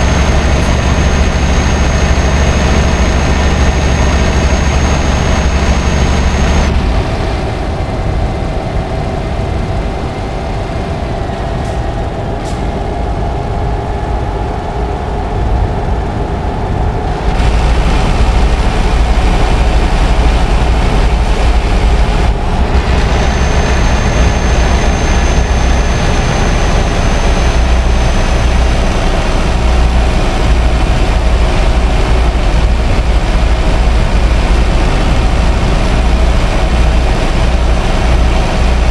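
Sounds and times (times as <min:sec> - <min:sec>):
diesel truck engine under load: 0:00.0 - 0:38.9.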